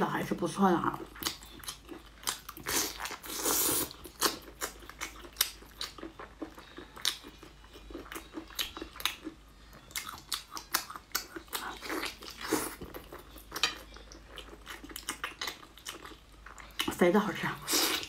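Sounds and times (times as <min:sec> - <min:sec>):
wet chewing and lip smacks: 0:01.1 - 0:09.4, 0:10.0 - 0:16.9.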